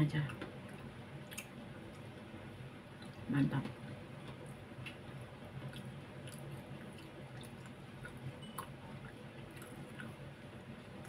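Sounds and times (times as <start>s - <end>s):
low steady hum: 0.0s - 11.0s
faint chewing: 0.2s - 2.3s, 2.9s - 11.0s.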